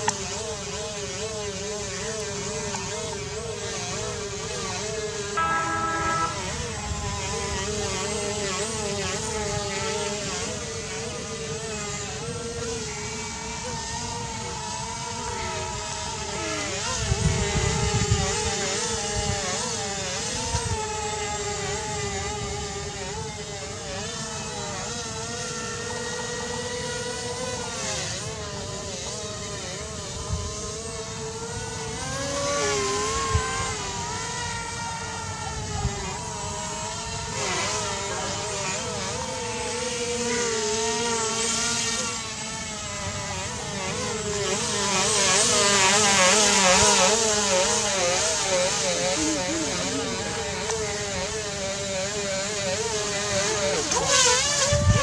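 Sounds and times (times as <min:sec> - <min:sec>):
electric motors and propellers whining: 0:00.0 - 0:55.0.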